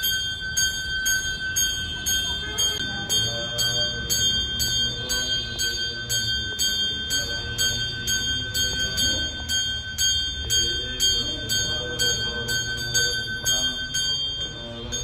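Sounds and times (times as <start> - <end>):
hand bell ringing: 0.0 - 15.0.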